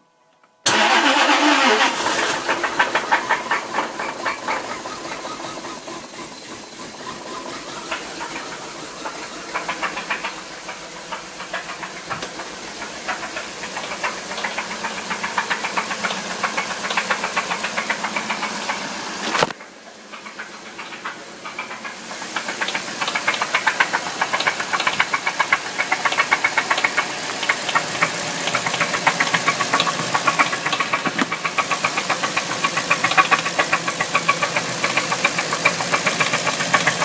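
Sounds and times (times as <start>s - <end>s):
engine running: 0.7s - 37.0s
rapid ticking: 2.4s - 37.0s.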